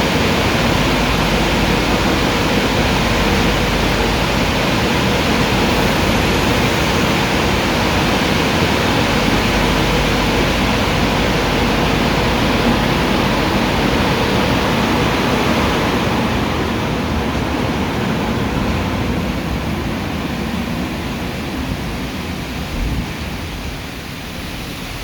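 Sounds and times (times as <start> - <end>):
car wash machine rushing: 0.0 - 25.0
faint hum: 0.0 - 25.0.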